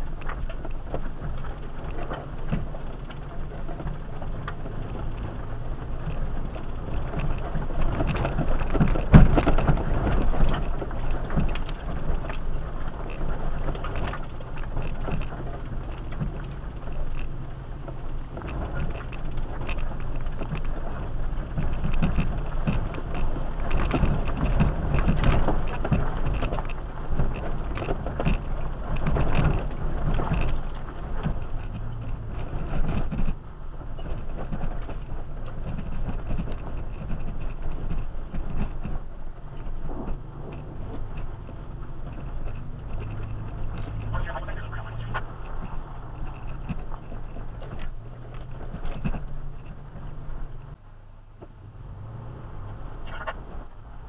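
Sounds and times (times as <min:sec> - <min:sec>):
engine and drivetrain rumble: 0:00.0 - 0:54.0.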